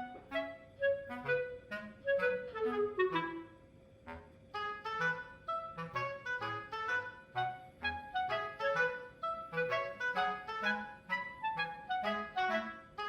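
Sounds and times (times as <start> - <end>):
light instrumental music: 0.0 - 3.6, 4.5 - 13.0.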